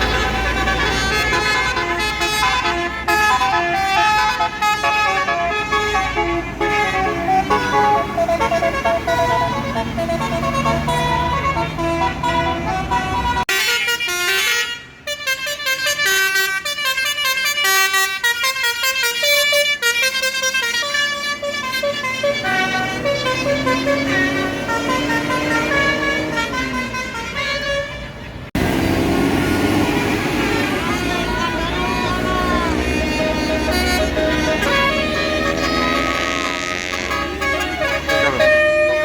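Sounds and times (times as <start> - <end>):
bus engine running: 0.0 - 39.0
musical bus horn playing a tune: 0.0 - 39.0.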